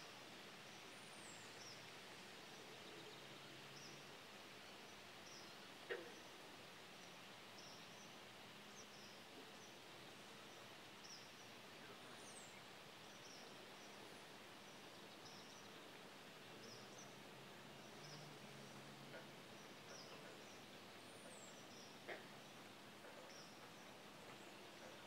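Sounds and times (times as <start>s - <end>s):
faint outdoor hiss: 0.0s - 25.0s.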